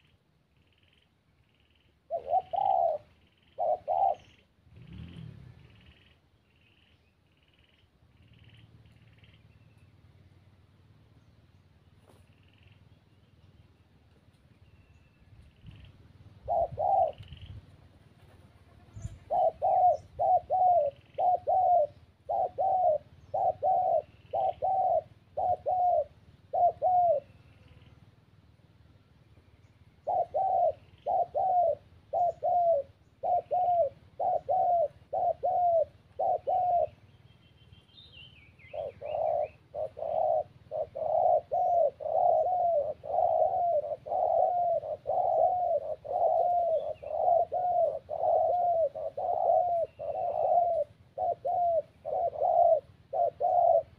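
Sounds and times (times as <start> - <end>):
dove cooing: 0.0 - 9.6, 15.4 - 28.2, 29.7 - 53.9
faint small bird chirps: 0.0 - 28.2, 36.4 - 53.9.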